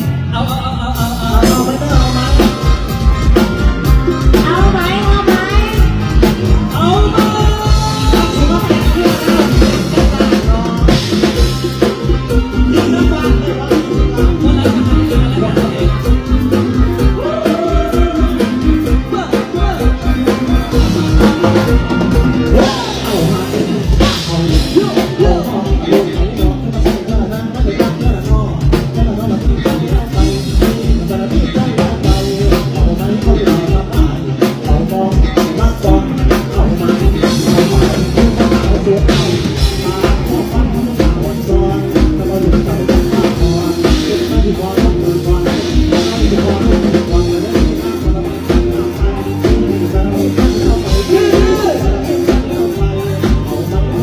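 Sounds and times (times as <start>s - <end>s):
drum kit fast beat: 0.0s - 54.0s
live band music over a stage pa: 0.0s - 54.0s.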